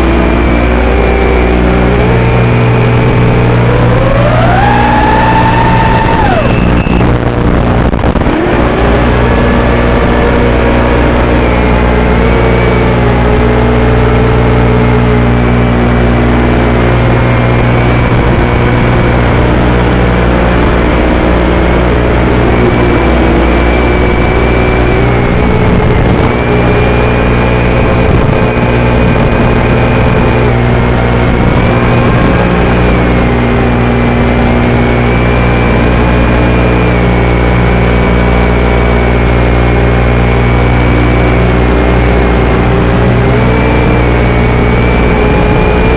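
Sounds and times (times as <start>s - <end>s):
buzzing hum and hiss: 0.0s - 45.9s
faint whine tones: 0.0s - 45.9s.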